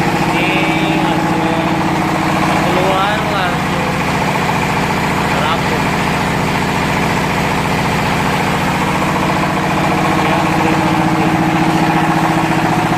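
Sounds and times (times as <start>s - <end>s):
high steady hum: 0.0s - 12.9s
machine pulsing drone: 0.0s - 12.9s.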